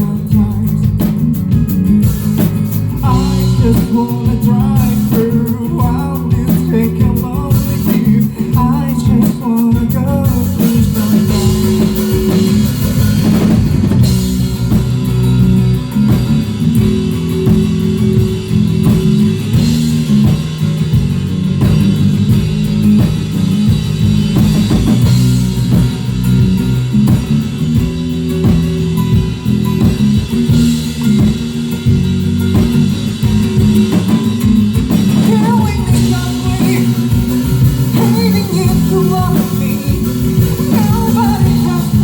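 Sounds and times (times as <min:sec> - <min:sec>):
instrumental rock band: 0:00.0 - 0:42.0.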